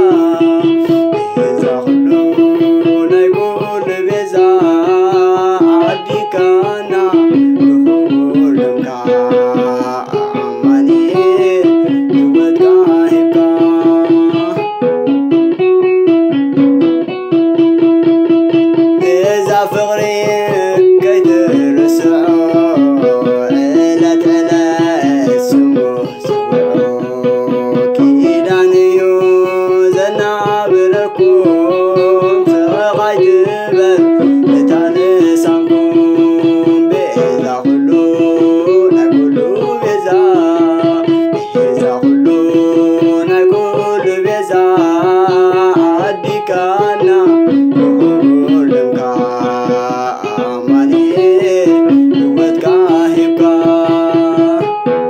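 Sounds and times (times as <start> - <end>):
plucked lyre melody: 0.0 - 55.0.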